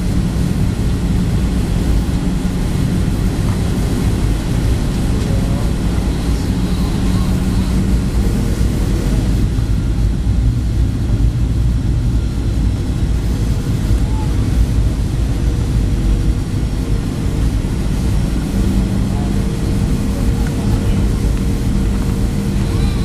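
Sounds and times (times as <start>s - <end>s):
airplane cabin engine rumble: 0.0s - 23.0s
faint even hum: 0.0s - 23.0s.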